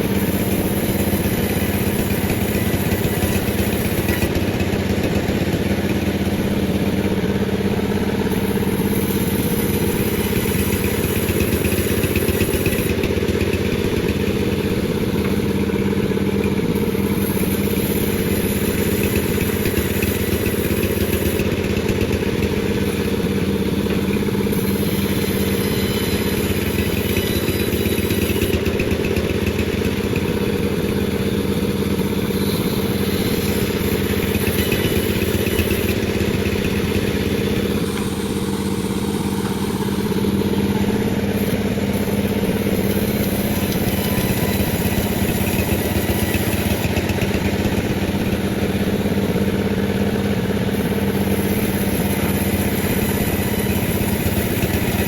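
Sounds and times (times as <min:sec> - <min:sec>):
chainsaw sawing through log: 0:00.0 - 0:55.0.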